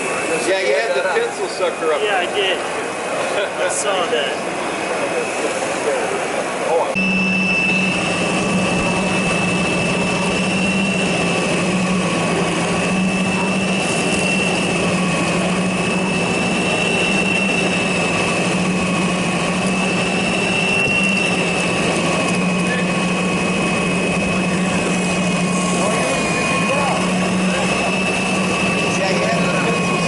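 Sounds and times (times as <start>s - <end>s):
vacuum sweeper whining: 0.0s - 30.0s.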